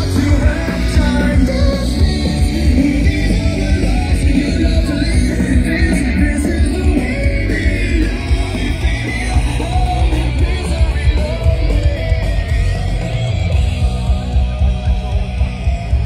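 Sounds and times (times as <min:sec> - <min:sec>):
loud rock music with singing: 0:00.0 - 0:16.0.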